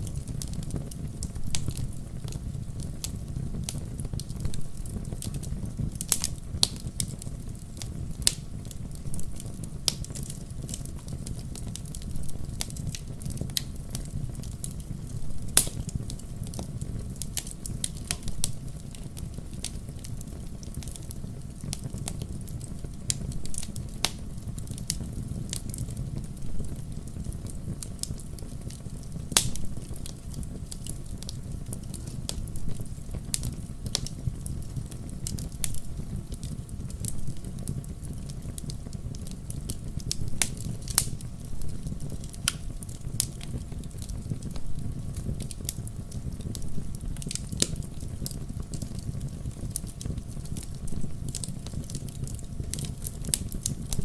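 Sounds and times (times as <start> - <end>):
campfire crackling and popping: 0.0 - 54.0
low rush of flames: 0.0 - 54.0.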